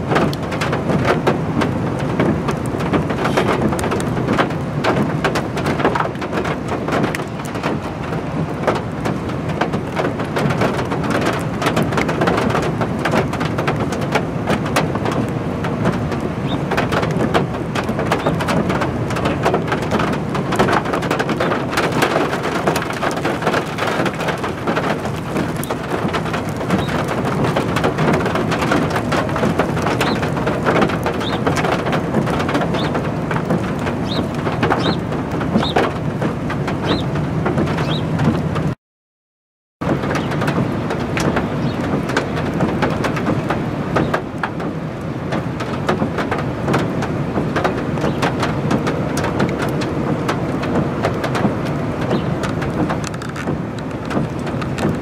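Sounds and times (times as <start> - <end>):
steady rain: 0.0 - 38.8, 39.8 - 55.0.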